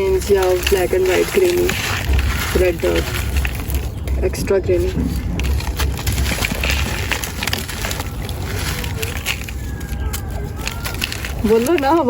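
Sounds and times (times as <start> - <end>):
sand-cement chunks crumbling: 0.0 - 12.0
steady low rumble: 0.0 - 12.0.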